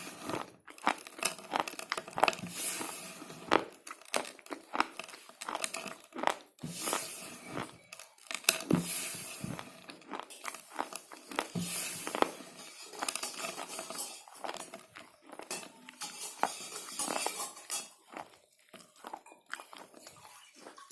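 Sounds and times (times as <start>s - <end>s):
chewing slate pencils: 0.0s - 20.9s.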